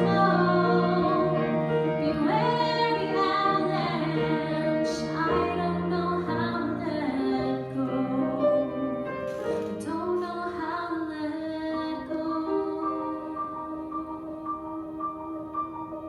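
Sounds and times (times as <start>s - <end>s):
musical accompaniment: 0.0s - 16.0s.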